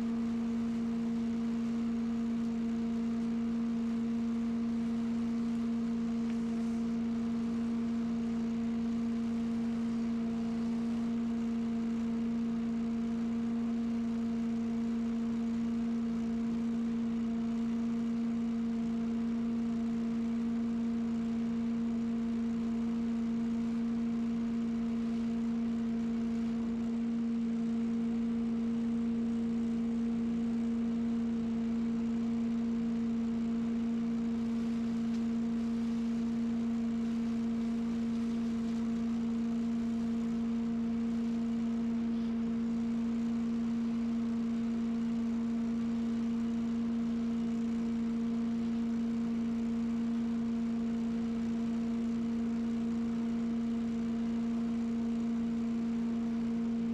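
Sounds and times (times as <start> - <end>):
lawn equipment humming: 0.0 - 56.9.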